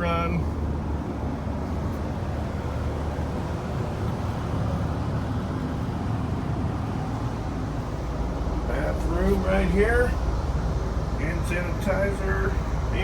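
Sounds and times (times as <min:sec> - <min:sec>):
air conditioning hiss: 0:00.0 - 0:13.0
bus engine idling: 0:00.0 - 0:13.0.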